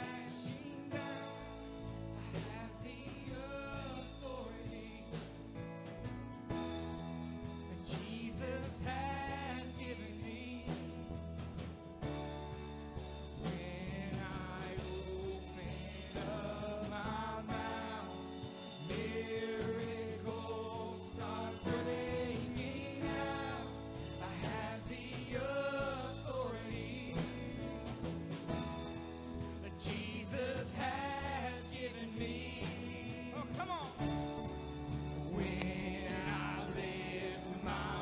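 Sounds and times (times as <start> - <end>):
band with bass and chords: 0.0 - 38.0
singers performing gospel song: 0.0 - 38.0.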